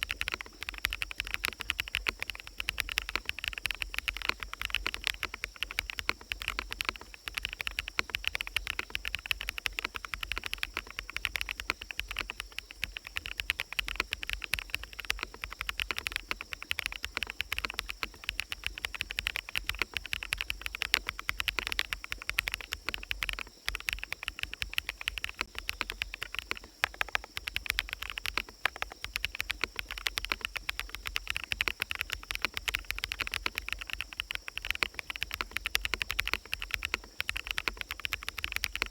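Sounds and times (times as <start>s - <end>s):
birds: 0.0s - 38.9s
insects: 0.0s - 38.9s
mechanical keyboard typing: 0.0s - 38.9s.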